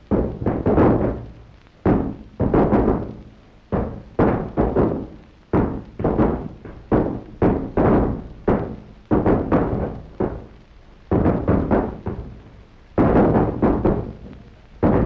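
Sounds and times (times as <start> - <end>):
sledgehammers striking concrete: 0.1 - 15.0.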